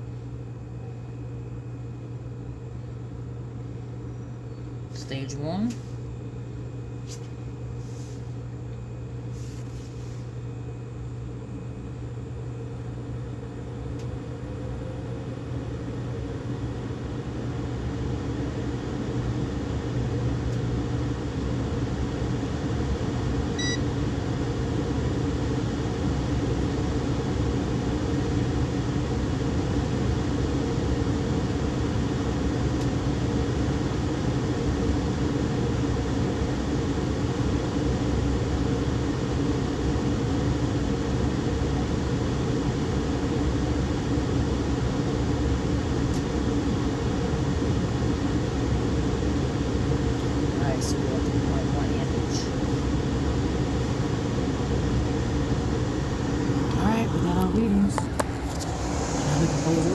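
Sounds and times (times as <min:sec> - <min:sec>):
hvac motor hum and airflow: 0:00.0 - 0:59.9.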